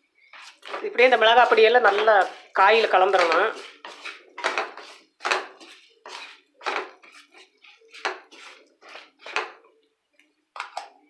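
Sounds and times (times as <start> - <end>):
spatula scraping in a pan: 0.0 - 9.7.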